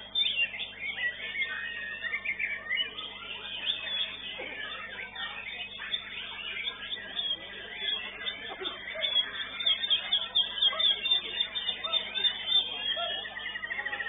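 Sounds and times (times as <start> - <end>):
bird singing whistled phrases: 0.0 - 14.0.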